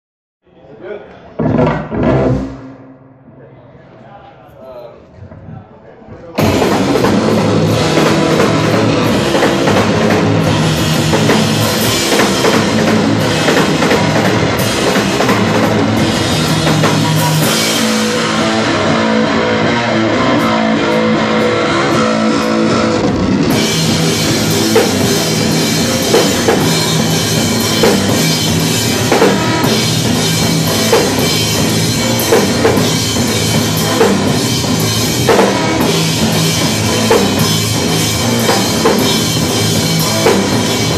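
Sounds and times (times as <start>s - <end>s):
rock band playing live: 1.2s - 4.0s, 6.3s - 40.9s
drum kit: 1.2s - 4.2s, 6.2s - 40.9s.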